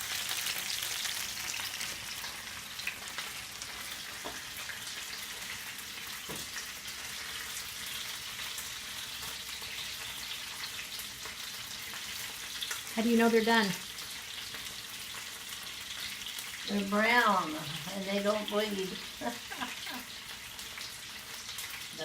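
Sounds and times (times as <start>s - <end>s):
chicken frying in grease: 0.0s - 22.0s.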